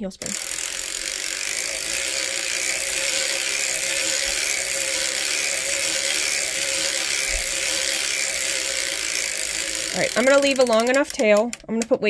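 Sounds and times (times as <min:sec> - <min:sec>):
sock knitting machine ratcheting clatter: 0:00.0 - 0:12.0.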